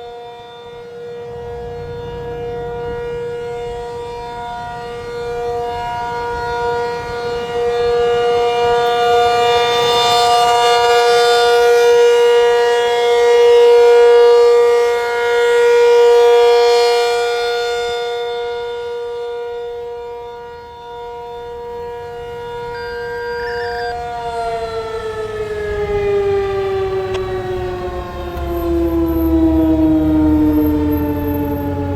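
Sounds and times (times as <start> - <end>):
outdoor warning siren: 0.0 - 31.9.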